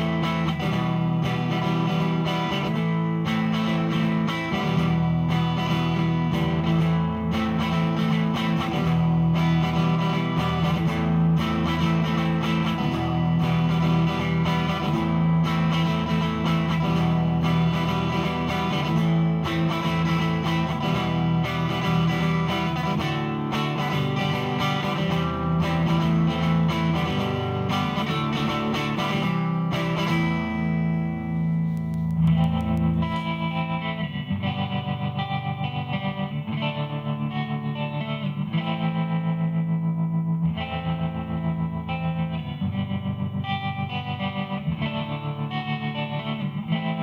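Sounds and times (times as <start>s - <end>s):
clean electric guitar chords: 0.0s - 47.0s.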